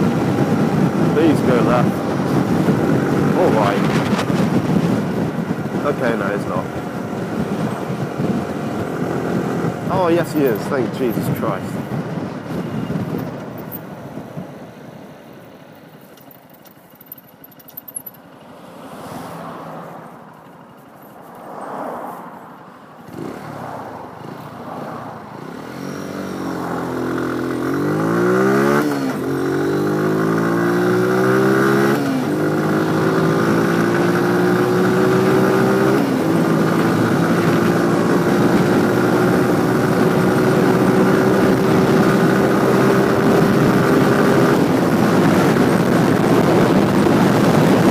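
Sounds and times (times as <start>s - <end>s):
motorcycle engine accelerating: 0.0s - 13.8s, 23.0s - 47.9s.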